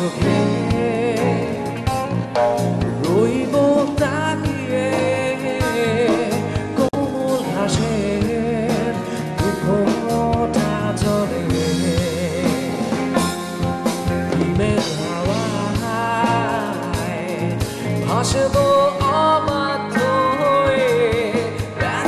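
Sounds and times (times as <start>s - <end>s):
man singing lead vocal: 0.0s - 22.0s
rock band playing live: 0.0s - 22.0s.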